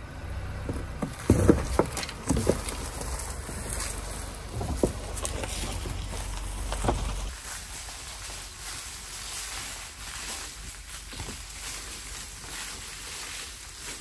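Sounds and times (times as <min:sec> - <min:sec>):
low engine rumble: 0:00.0 - 0:14.0
tyres crunching leaves and stones: 0:00.0 - 0:14.0.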